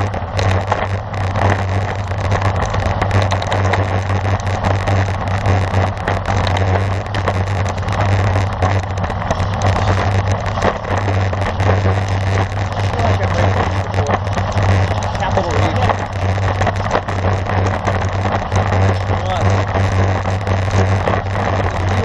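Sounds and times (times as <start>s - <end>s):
light crackling: 0.0s - 22.0s
tyre noise on road: 0.0s - 22.0s.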